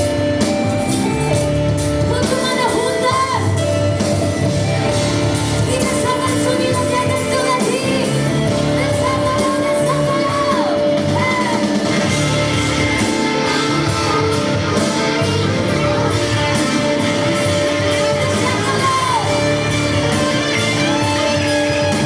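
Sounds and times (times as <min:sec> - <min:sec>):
song with band and singing: 0:00.0 - 0:22.0.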